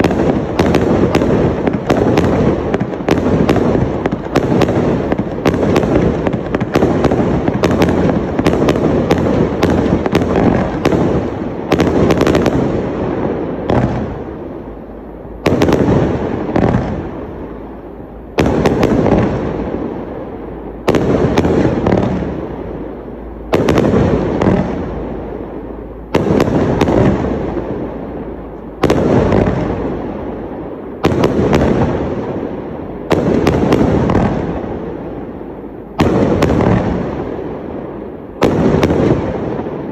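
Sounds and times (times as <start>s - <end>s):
fireworks bangs: 0.0s - 39.9s
fireworks rumble and crackle: 0.0s - 39.9s.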